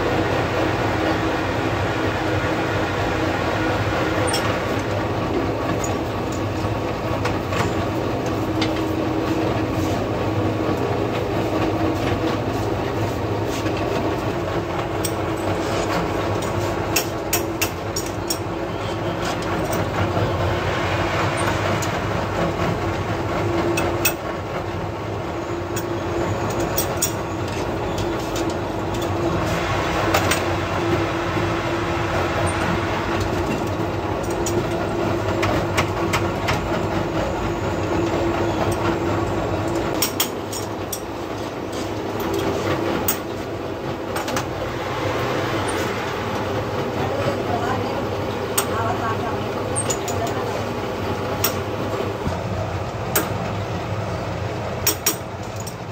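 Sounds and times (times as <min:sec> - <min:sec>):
workshop machinery humming: 0:00.0 - 0:55.9.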